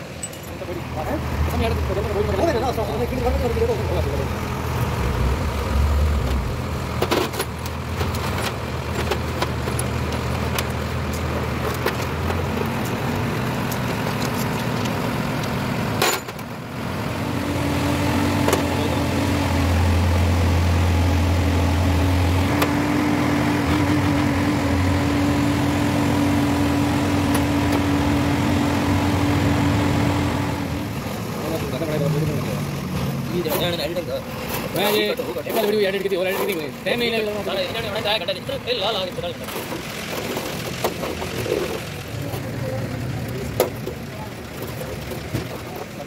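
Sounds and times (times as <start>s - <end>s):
engine humming: 0.0s - 46.0s.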